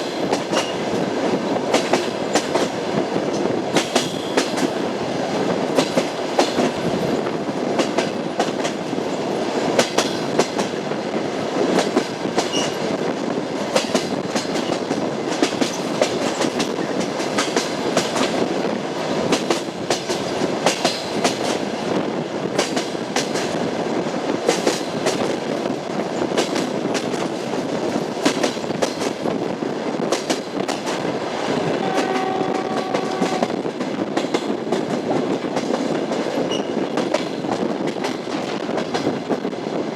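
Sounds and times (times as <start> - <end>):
train wheels clattering over rail joints: 0.0 - 4.8, 5.4 - 31.2, 31.8 - 39.7
train running rumble: 0.0 - 39.9.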